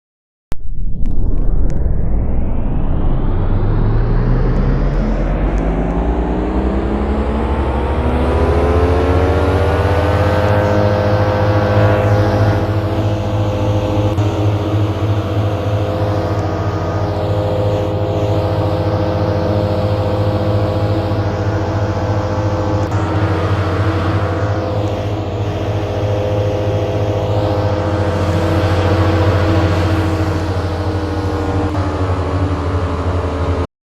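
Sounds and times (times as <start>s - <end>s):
low hum: 0.5s - 33.7s
air conditioner motor whine: 4.6s - 33.6s.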